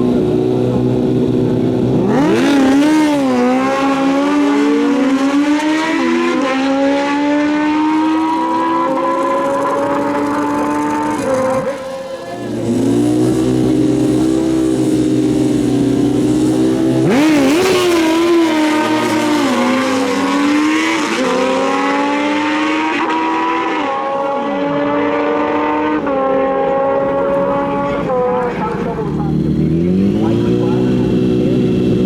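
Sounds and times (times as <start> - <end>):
motorcycle engines revving and upshifting: 0.0 - 32.0.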